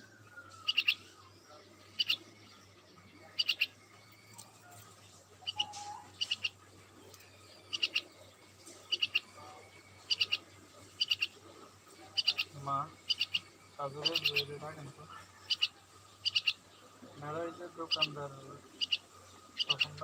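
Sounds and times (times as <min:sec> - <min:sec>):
small bird chirping: 0:00.0 - 0:20.0.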